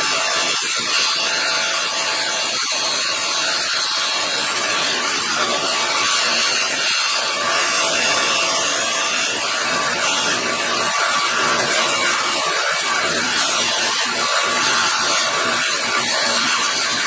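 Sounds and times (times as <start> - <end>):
belt sander sanding metal: 0.0 - 17.0.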